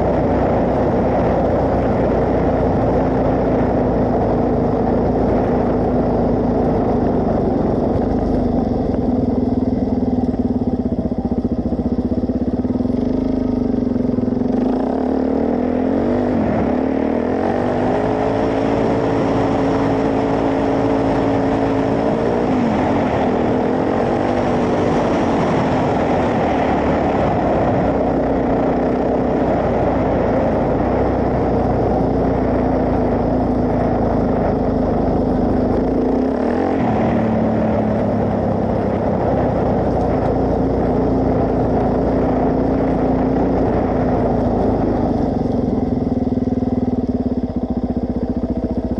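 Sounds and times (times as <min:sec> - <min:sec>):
single-cylinder motorcycle engine running: 0:00.0 - 0:48.9.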